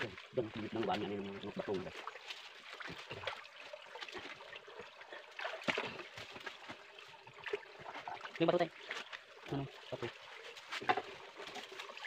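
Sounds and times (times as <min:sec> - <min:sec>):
shallow stream trickling: 0:00.0 - 0:12.0
splashes in water: 0:00.0 - 0:12.0.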